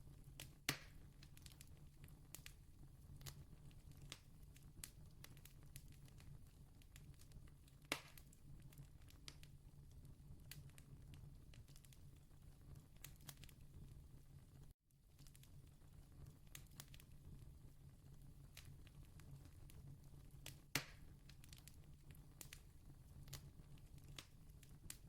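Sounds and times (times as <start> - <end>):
campfire crackling: 0.4 - 2.6, 3.2 - 14.0, 15.2 - 17.5, 18.3 - 25.0.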